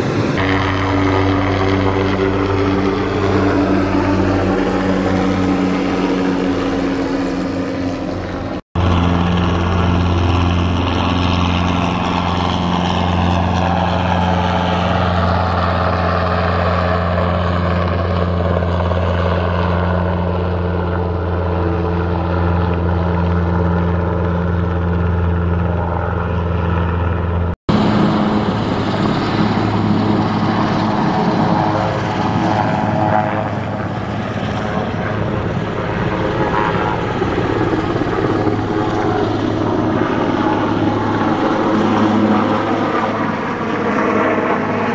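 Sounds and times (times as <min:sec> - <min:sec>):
high turbine whine: 0:00.0 - 0:44.9
large helicopter rotor chop: 0:00.0 - 0:44.9
light helicopter rotor drone: 0:00.0 - 0:44.9.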